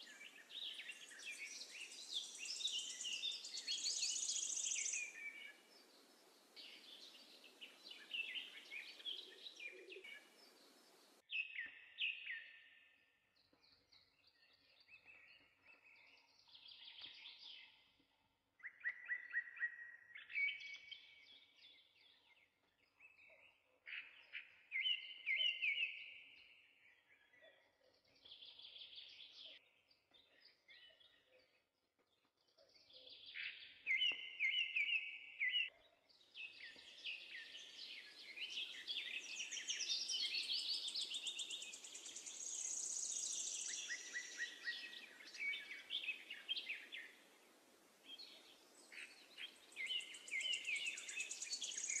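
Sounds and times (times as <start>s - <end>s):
birds chirping and trilling: 0.0s - 12.8s, 13.4s - 52.0s.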